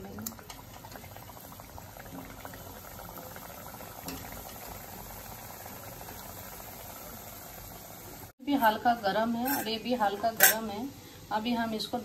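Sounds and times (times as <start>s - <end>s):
dough deep-frying in oil: 0.0s - 12.0s.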